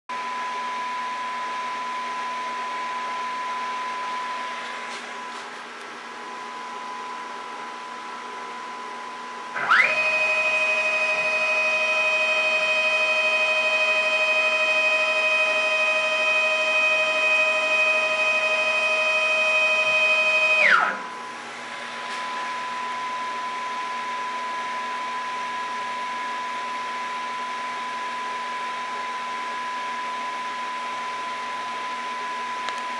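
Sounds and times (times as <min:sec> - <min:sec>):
electrical hum: 0:00.1 - 0:32.9
stepper motor whine: 0:06.2 - 0:32.8.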